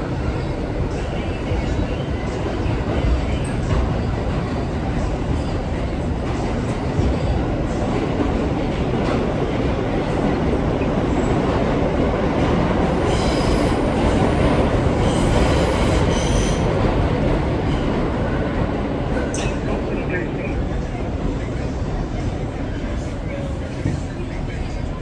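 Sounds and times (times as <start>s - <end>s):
subway train wheels rumbling: 0.0s - 25.0s.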